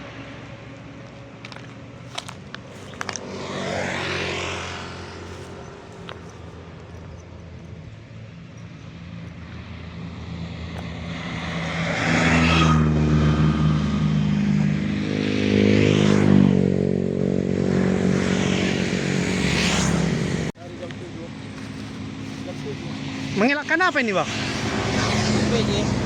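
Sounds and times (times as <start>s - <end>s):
vehicle engine running loudly: 0.0s - 26.0s.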